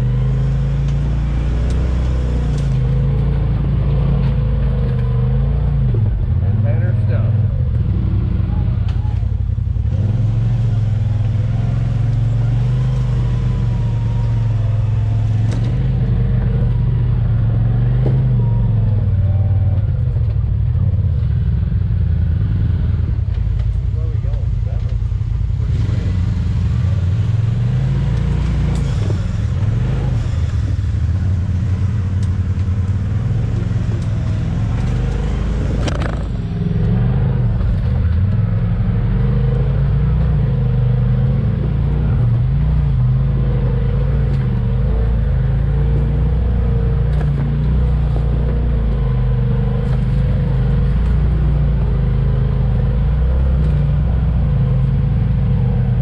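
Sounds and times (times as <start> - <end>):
utility vehicle engine droning: 0.0 - 56.0.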